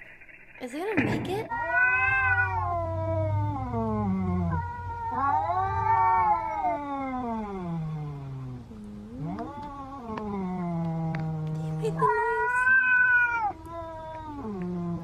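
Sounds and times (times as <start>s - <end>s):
cat yowling: 1.5s - 15.0s.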